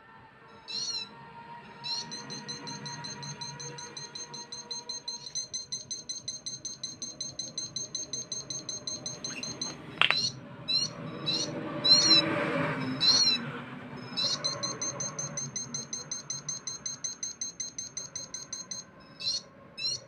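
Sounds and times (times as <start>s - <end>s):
rising and falling chirps: 0.6s - 20.0s
rapid high-pitched siren beeps: 1.7s - 20.0s.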